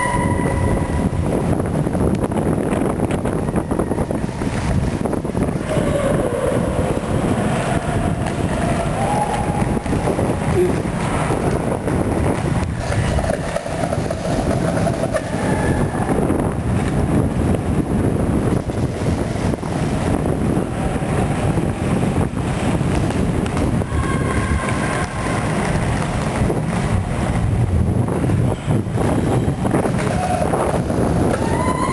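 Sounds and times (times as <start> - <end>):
skate wheels rolling on concrete: 0.0 - 31.9
wind on microphone: 0.0 - 31.9.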